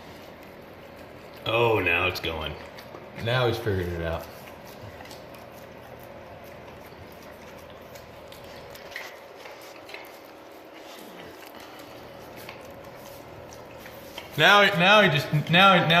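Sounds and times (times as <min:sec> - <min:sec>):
dog chewing and licking: 0:00.0 - 0:16.0.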